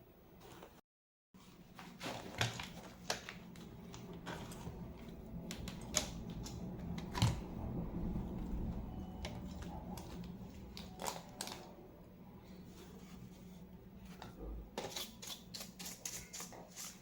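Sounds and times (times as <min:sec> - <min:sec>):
low steady hum: 0:01.4 - 0:16.4.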